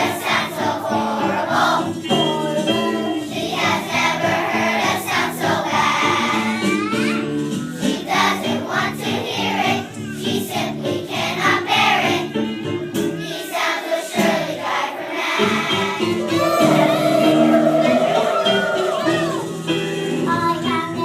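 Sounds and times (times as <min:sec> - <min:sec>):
voices singing together: 0:00.0 - 0:06.9, 0:07.6 - 0:19.6
instrumental backing: 0:00.0 - 0:13.4, 0:14.2 - 0:21.0.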